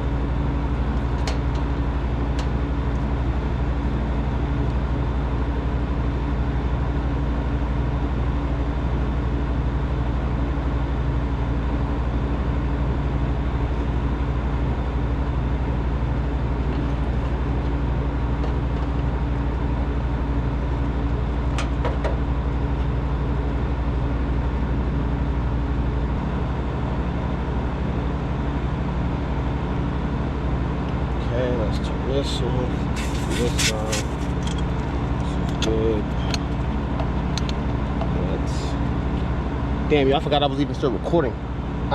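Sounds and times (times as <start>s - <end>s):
hvac mechanical hum: 0.0s - 41.9s.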